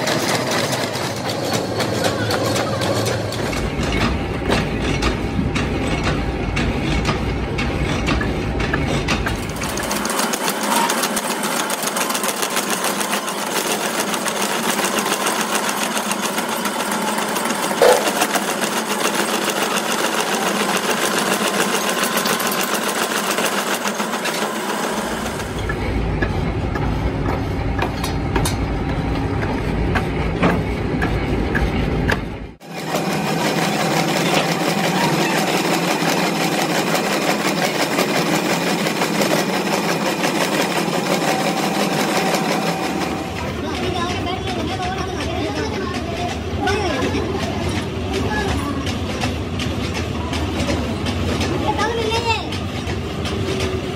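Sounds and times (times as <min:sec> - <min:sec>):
lathe cutting tool clatter: 0:00.0 - 0:53.9.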